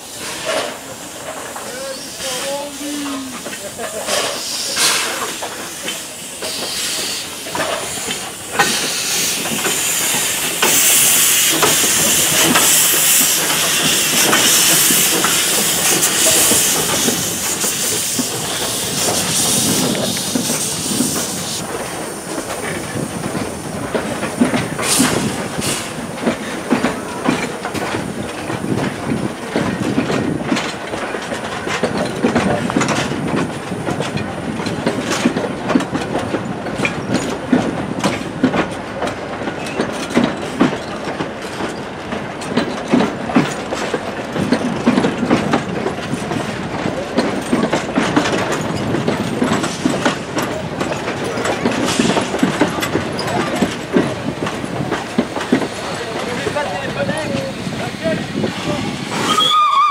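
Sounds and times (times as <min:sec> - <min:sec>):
train wheels clattering over rails: 0:00.0 - 0:59.9.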